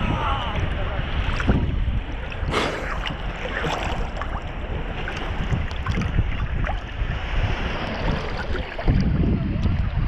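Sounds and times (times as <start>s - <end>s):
sea water splashing: 0.0s - 10.0s
wind buffeting microphone: 0.0s - 10.0s.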